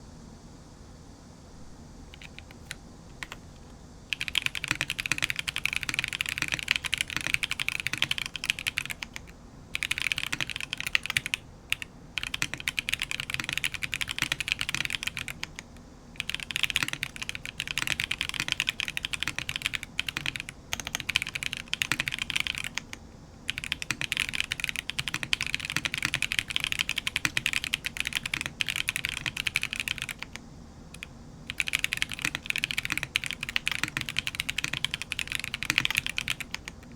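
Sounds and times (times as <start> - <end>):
mechanical keyboard key clacks: 2.2 - 3.4, 4.2 - 30.4, 31.0 - 36.9.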